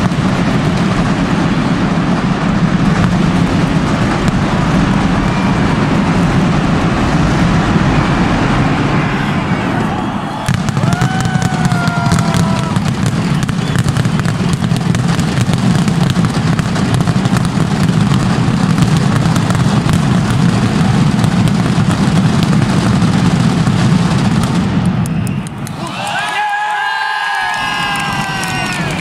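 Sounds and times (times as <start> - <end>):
firecracker barrage: 0.0 - 29.0.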